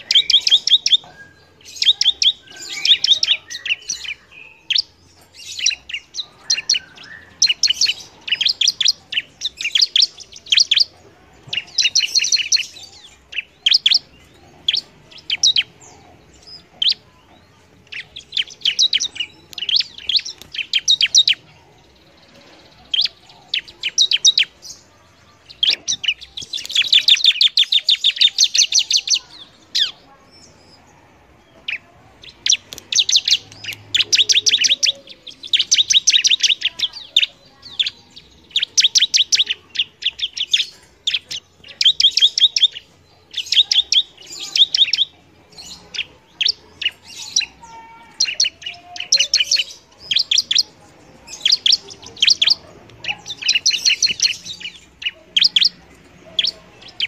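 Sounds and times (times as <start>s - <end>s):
bird singing high chirps: 0.0s - 57.0s.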